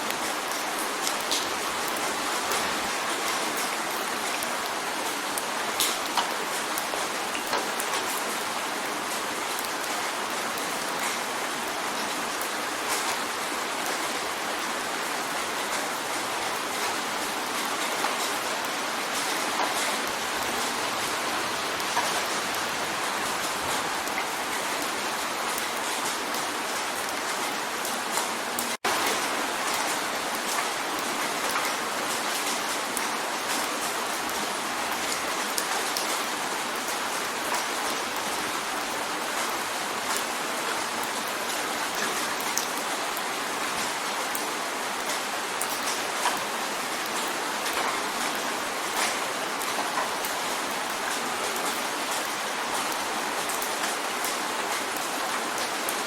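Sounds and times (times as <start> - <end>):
rain drumming on a window: 0.0 - 56.0.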